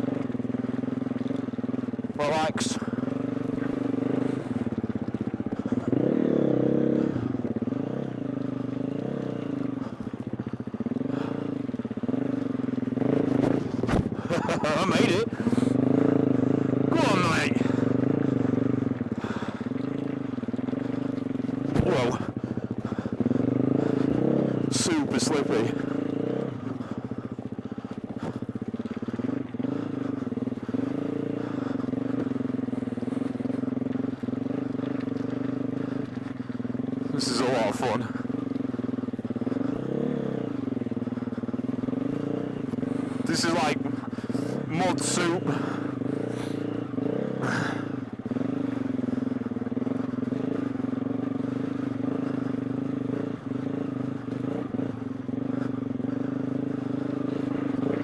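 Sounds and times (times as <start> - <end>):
dirt bike engine chugging: 0.0 - 58.0.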